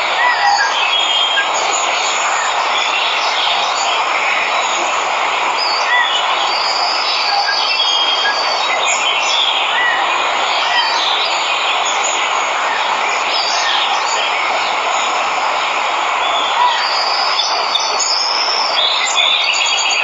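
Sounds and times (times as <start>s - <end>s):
birds chirping: 0.0s - 20.0s
waterfall rushing: 0.0s - 20.0s.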